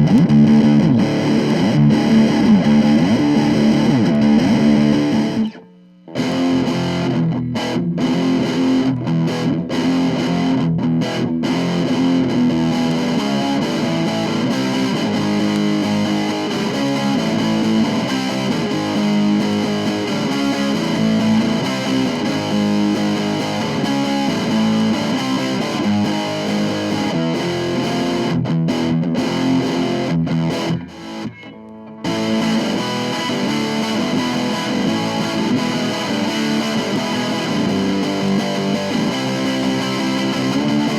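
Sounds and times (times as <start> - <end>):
distorted electric guitar: 0.0 - 40.9.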